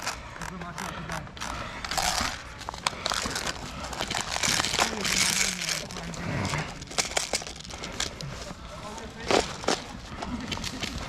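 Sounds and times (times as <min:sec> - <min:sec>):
rustling and crunching: 0:00.0 - 0:11.0.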